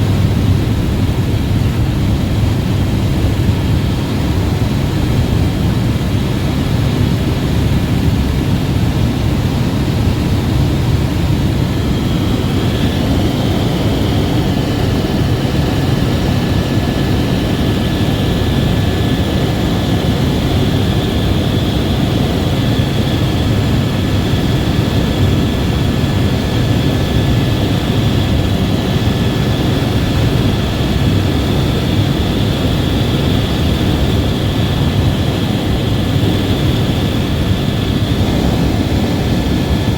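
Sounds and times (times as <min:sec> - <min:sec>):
faint high turbine whine: 0:00.0 - 0:39.9
helicopter rotor and engine noise: 0:00.0 - 0:39.9.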